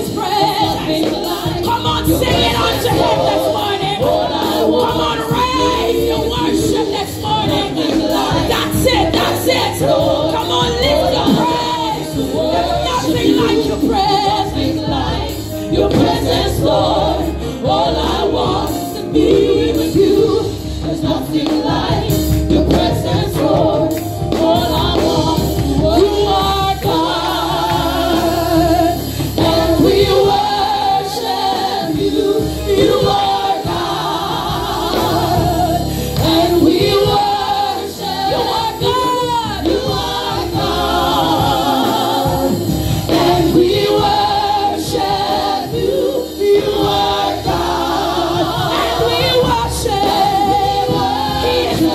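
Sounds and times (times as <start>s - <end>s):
instrumental backing: 0.0s - 51.9s
women singing gospel song: 0.0s - 51.9s.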